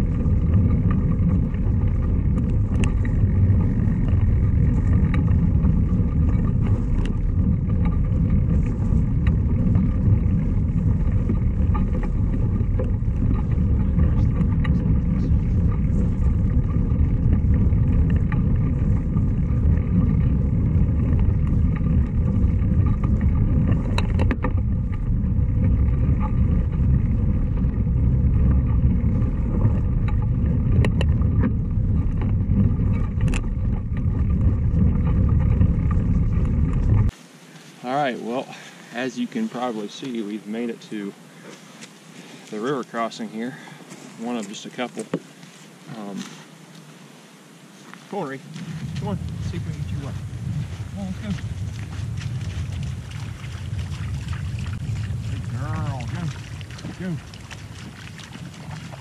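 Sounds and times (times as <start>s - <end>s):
wind on microphone: 0.0s - 37.2s, 42.4s - 59.0s
bike tyres rumbling on dirt trail: 0.0s - 59.0s.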